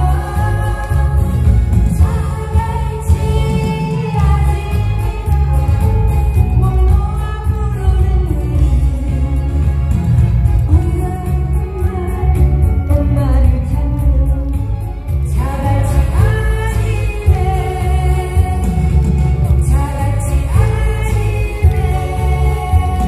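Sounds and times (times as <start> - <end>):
woman singing into microphone: 0.0 - 23.0.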